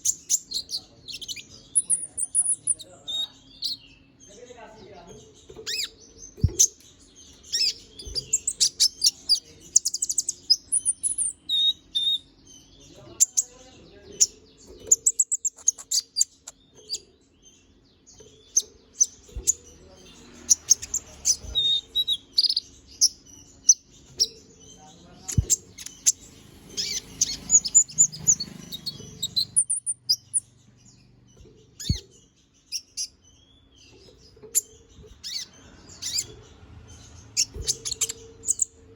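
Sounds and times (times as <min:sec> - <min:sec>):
sunbird chirps and twitters: 0:00.0 - 0:38.9.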